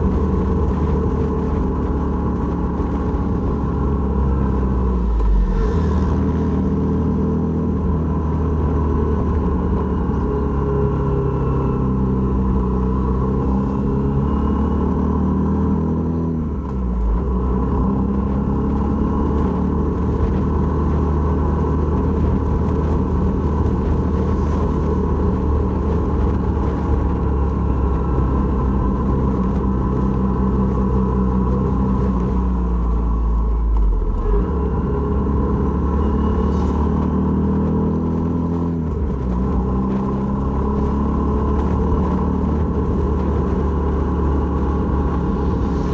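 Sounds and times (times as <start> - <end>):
wind rumble on microphone: 0.0 - 45.9.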